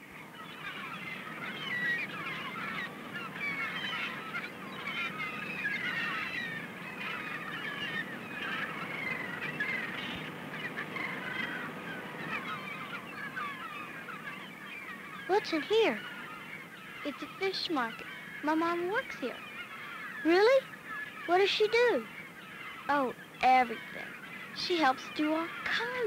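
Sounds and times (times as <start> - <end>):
flock of birds calling: 0.0 - 26.0.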